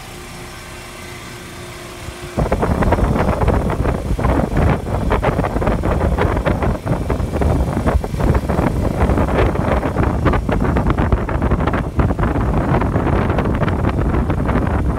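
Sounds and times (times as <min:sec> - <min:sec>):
loud rumbling with crackling: 0:00.0 - 0:14.9.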